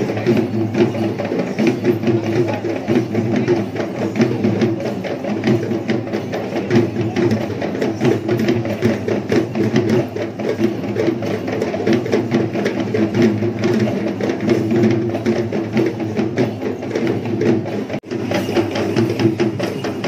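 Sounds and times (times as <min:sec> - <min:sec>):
fast barrel drumming: 0:00.0 - 0:20.0.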